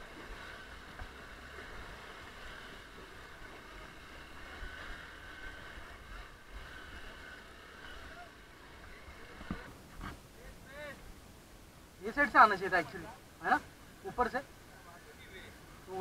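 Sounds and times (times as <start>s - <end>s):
muffled dirt bike engine: 0.0s - 16.0s.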